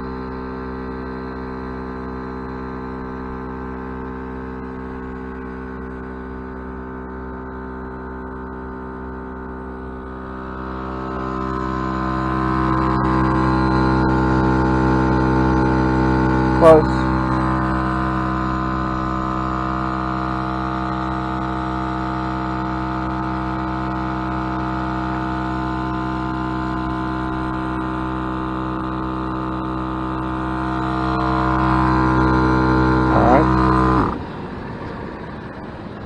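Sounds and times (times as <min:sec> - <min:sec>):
portable air compressor running: 0:00.0 - 0:36.0.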